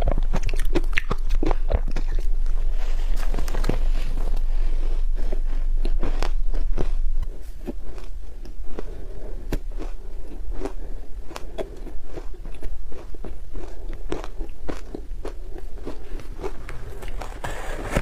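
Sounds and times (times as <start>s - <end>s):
chewing crunchy ice: 0.0s - 18.0s.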